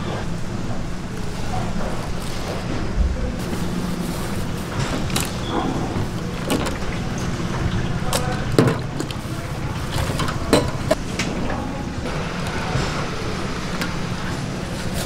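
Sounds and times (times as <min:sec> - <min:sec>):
low hum of street stall: 0:00.0 - 0:15.0.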